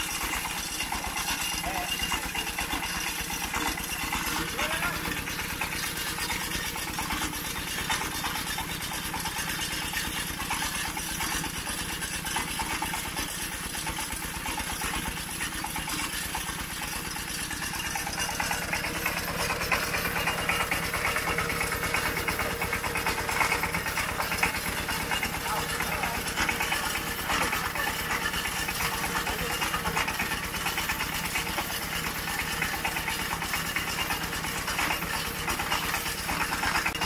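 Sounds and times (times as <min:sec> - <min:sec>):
small engine idling: 0:00.0 - 0:37.0.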